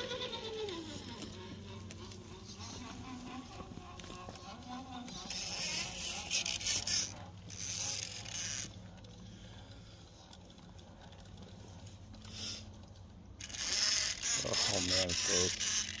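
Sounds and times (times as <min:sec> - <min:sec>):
motor and gears whirring: 0:00.0 - 0:16.0.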